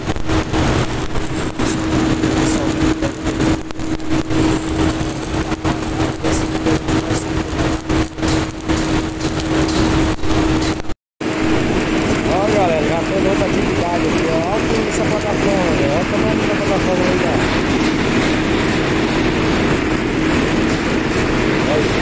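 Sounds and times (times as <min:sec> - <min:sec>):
crane engine running: 0:00.0 - 0:22.0
irregular rumbling: 0:00.0 - 0:22.0.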